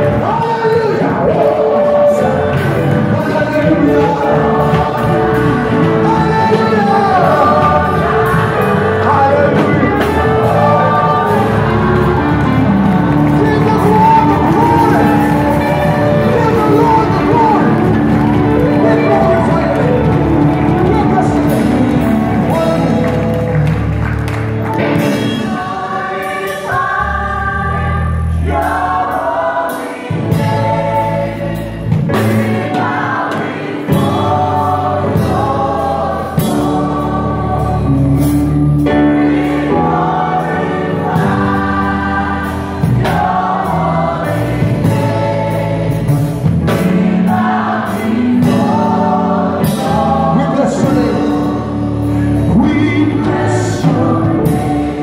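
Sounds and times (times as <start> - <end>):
choir singing gospel song: 0.0 - 55.0
drum kit beat: 0.0 - 55.0
keyboard with bass line: 0.0 - 55.0.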